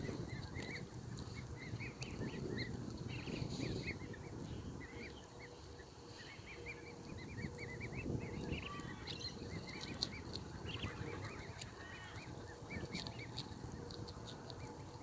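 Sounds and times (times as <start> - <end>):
cygnets peeping: 0.0 - 15.0
low background rumble: 0.0 - 15.0.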